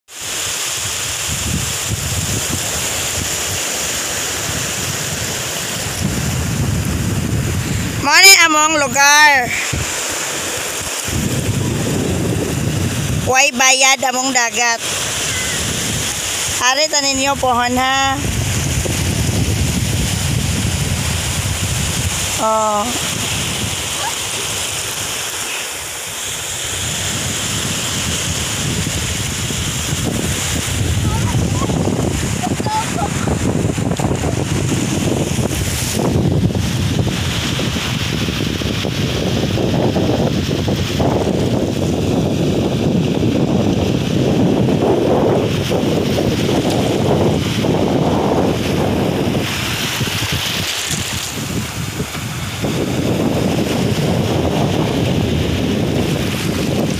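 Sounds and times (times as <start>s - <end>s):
waves breaking on beach: 0.0s - 56.9s
wind buffeting microphone: 0.2s - 56.9s.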